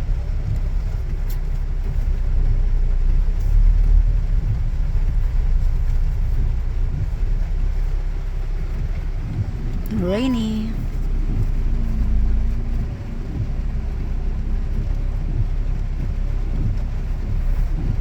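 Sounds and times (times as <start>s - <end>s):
car interior rumble: 0.0s - 18.0s.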